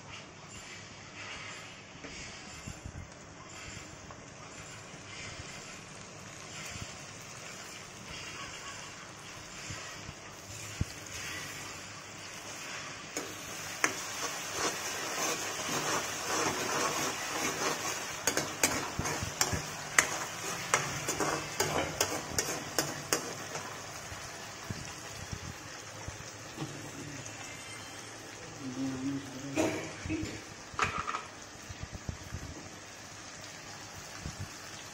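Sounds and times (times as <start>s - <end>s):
vegetables sizzling in oil: 0.1s - 34.9s.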